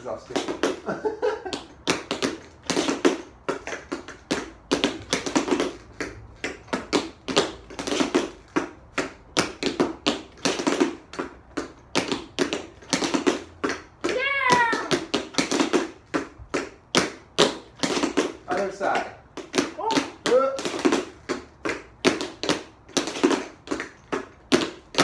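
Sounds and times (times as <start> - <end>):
tap shoes on hard floor: 0.3 - 25.0.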